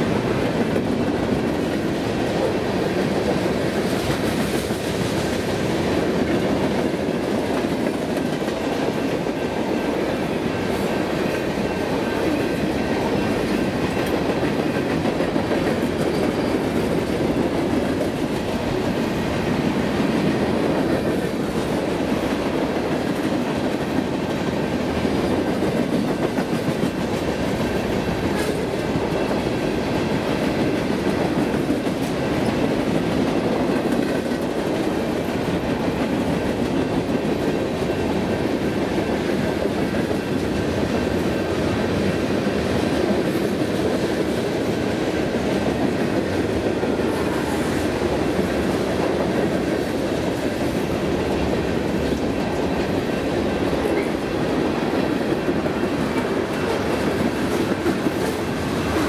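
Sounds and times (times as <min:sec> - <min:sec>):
train wheels rolling on rail: 0:00.0 - 0:59.0.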